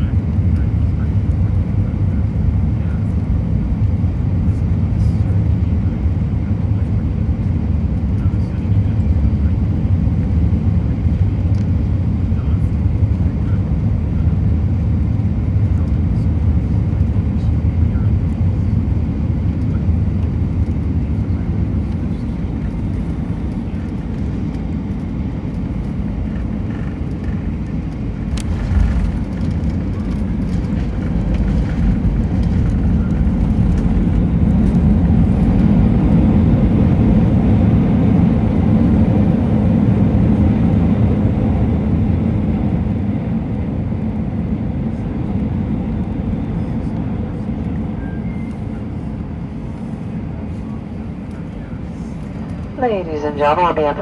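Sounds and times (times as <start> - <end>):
airliner cabin rumble: 0.0 - 54.0
jet engines reverse thrust: 0.0 - 54.0.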